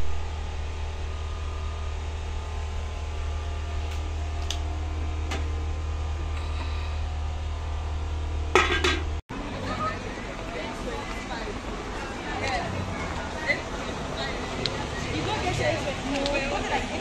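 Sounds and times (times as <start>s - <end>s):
machine hum with deep rumble: 0.0s - 17.0s.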